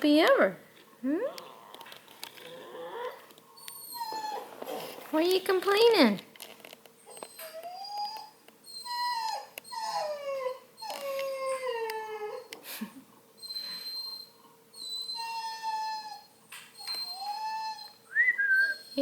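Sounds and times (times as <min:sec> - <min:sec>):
puppy whining: 0:01.0 - 0:05.0, 0:07.0 - 0:19.0.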